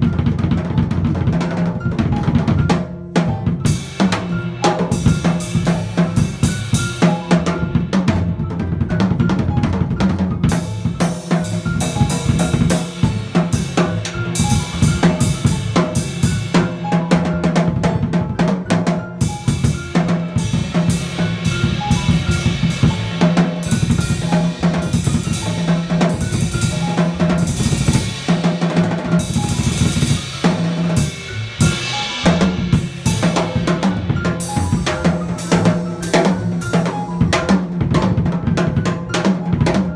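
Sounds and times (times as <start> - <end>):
jazz drum kit with sticks: 0.0 - 39.9
piano: 0.0 - 39.9
upright bass: 0.0 - 39.9.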